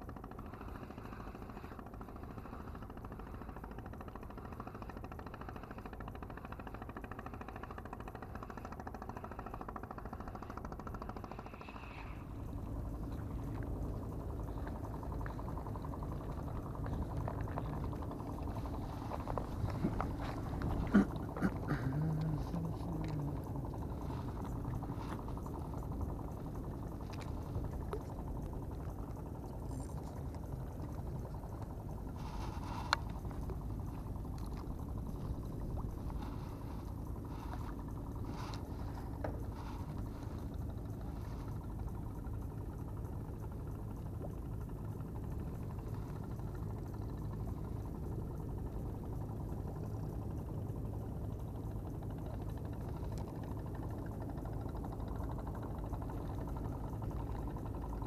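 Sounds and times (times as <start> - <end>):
distant boat engine hum: 0.0 - 58.0
steady low rumble: 0.0 - 58.0.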